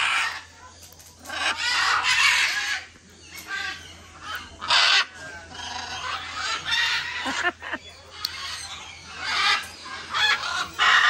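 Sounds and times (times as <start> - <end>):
birds squawking: 0.0 - 11.0.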